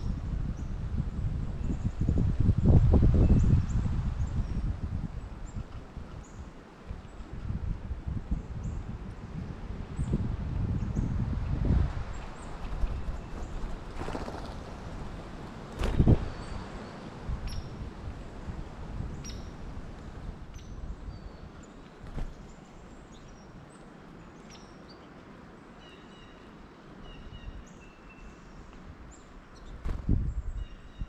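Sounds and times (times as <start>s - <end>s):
songbirds chirping: 0.0s - 7.5s, 8.2s - 31.0s
outdoor background noise: 0.0s - 31.0s.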